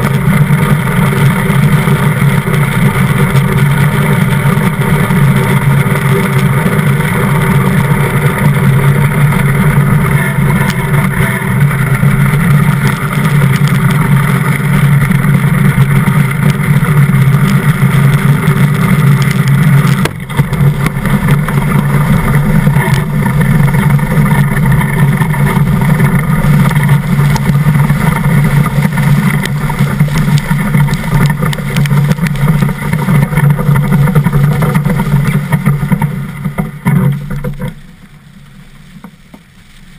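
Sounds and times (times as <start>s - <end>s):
steel runners rumbling over ice: 0.0s - 39.9s.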